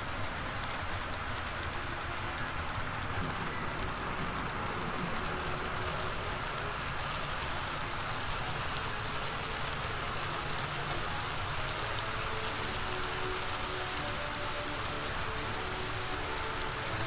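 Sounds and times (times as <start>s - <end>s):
model train clattering on track: 0.0s - 17.0s.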